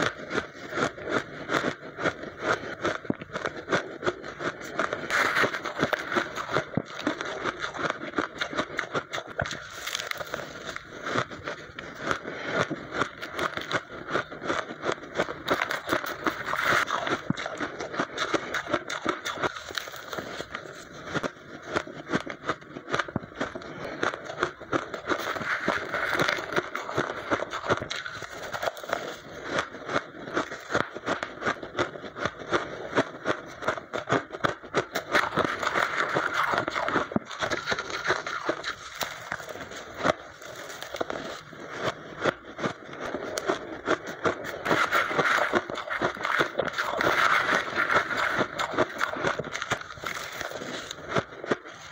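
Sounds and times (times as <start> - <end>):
ice being chewed: 0.0 - 51.9.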